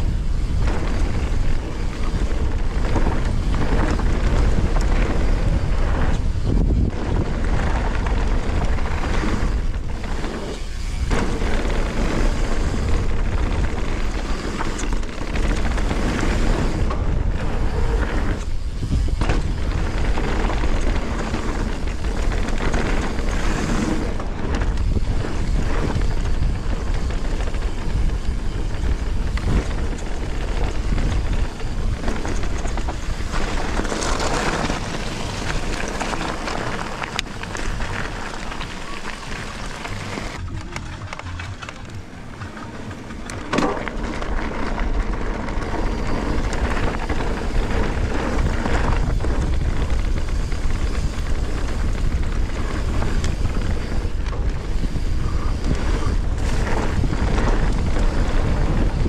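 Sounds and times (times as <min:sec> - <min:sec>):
bike rolling rumble: 0:00.0 - 0:59.0
wind on microphone: 0:00.0 - 0:59.0.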